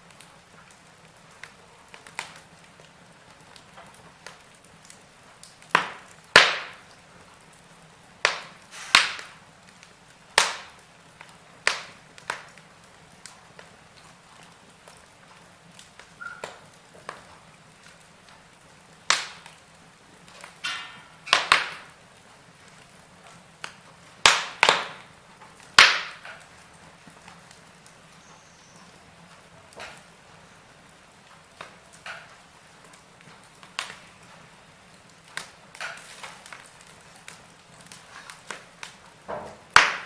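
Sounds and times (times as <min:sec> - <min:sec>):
sharp pops of fire: 0:00.0 - 0:40.0
soft steady hiss: 0:00.0 - 0:40.0
wood fire crackling: 0:00.0 - 0:40.0.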